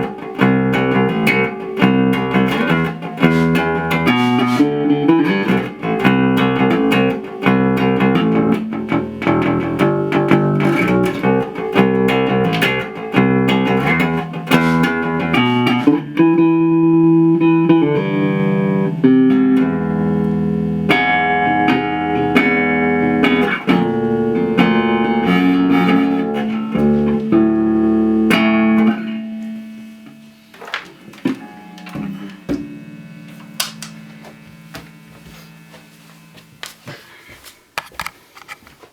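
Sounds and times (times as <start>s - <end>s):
plucked string instrument: 0.0s - 35.2s.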